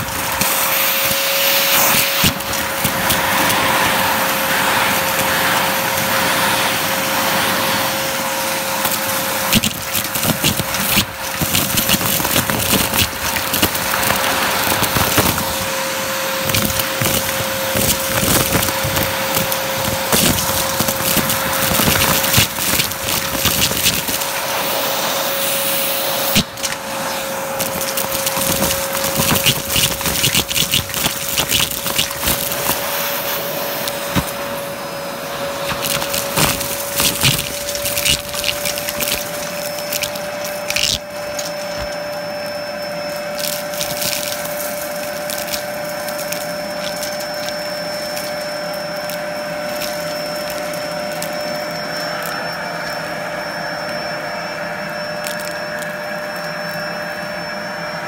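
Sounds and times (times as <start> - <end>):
debris rattling up vacuum nozzle: 0.0 - 57.4
vacuum cleaner motor hum: 0.0 - 58.0.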